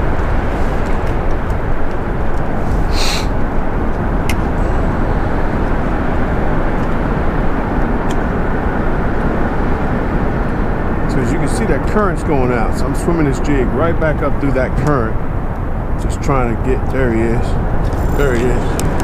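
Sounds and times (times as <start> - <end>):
low rumbling noise with hiss: 0.0 - 19.0.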